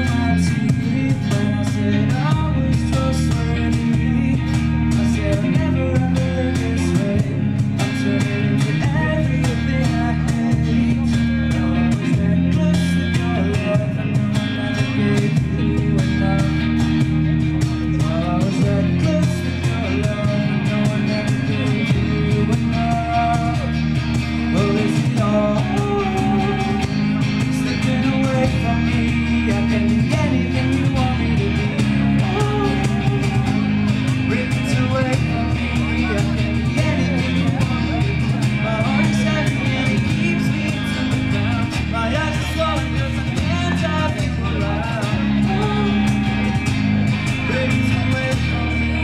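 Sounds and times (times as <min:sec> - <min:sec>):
bass guitar: 0:00.0 - 0:49.0
electric guitar: 0:00.0 - 0:49.0
person singing lead vocal: 0:00.0 - 0:49.0
steady cajon beat: 0:00.0 - 0:49.0
strummed acoustic guitar: 0:00.0 - 0:49.0.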